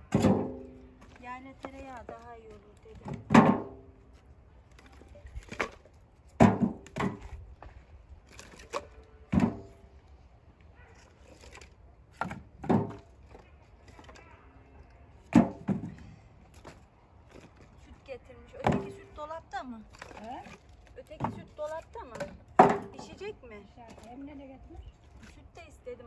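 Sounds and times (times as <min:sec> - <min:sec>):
firewood logs knocking together: 0:00.0 - 0:10.1, 0:10.8 - 0:26.0.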